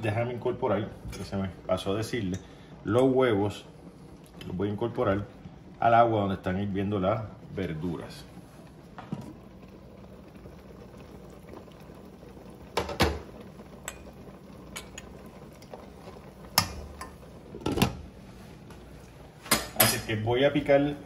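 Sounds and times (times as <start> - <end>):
water boiling and bubbling: 0.0 - 21.0.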